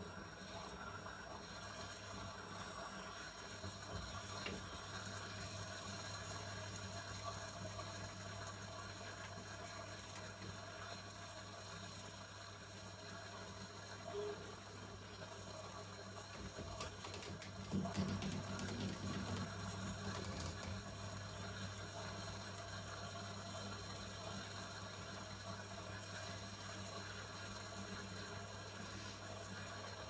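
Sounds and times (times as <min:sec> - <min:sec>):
washing machine churning: 0:00.0 - 0:30.0.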